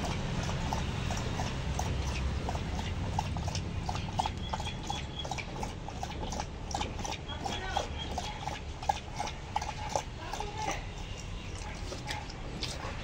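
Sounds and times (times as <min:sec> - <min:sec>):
dog lapping water from bowl: 0:00.0 - 0:13.0.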